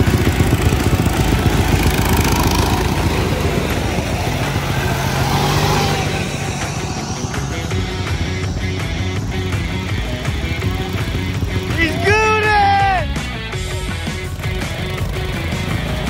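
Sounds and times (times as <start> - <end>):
small engines racing past: 0.0 - 16.0.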